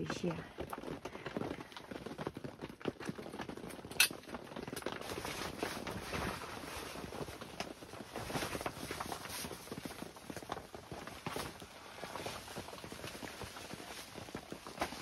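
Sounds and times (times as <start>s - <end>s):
camping gear rustling and clattering: 0.0s - 15.0s.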